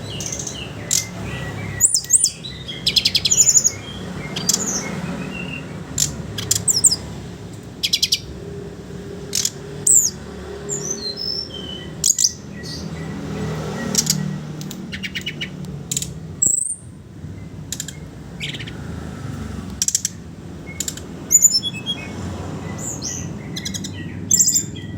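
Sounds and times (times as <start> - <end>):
bird singing trills and whistles: 0.0 - 7.1, 7.8 - 8.4, 9.3 - 18.9, 19.8 - 24.9.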